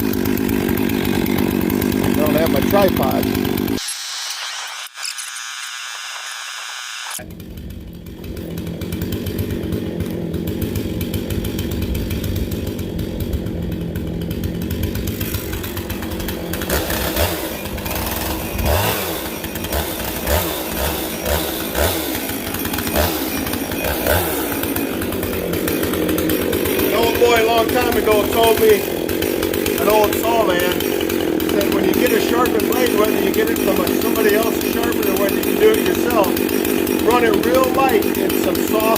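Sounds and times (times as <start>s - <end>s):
chainsaw running and revving: 0.0s - 3.8s, 4.7s - 38.9s.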